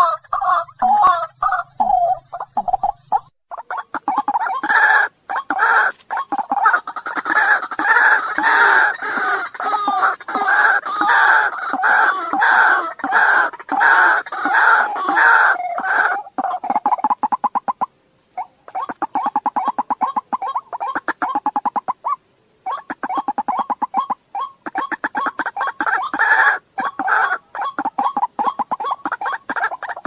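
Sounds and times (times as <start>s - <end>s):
bird harsh croaking call: 0.0s - 30.0s.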